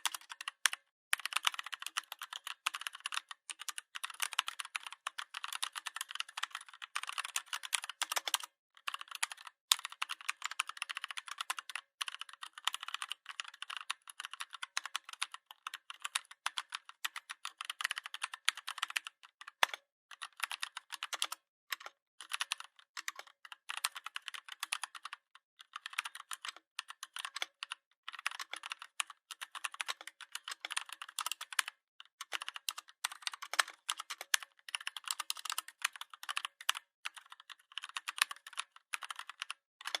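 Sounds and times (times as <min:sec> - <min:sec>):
computer keyboard typing: 0:00.0 - 0:40.0.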